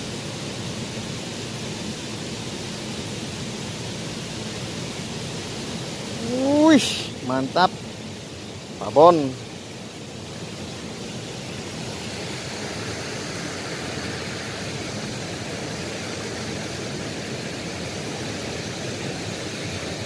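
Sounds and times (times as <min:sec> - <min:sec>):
stream rushing over riffles: 0:00.0 - 0:20.0.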